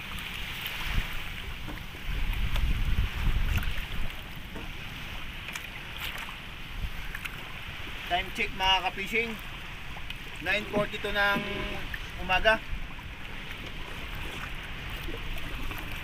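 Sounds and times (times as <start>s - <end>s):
water moving along boat hull: 0.0s - 16.0s
wind rumble on microphone: 0.0s - 16.0s.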